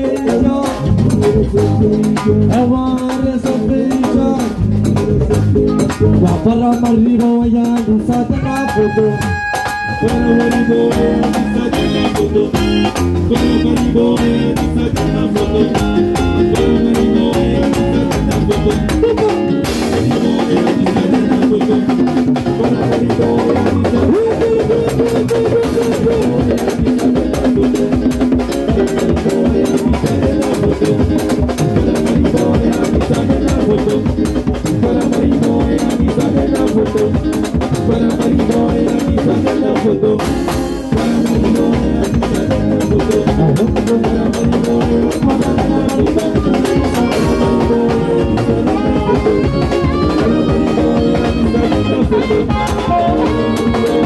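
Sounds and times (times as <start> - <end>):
live band playing dance music: 0.0 - 54.0.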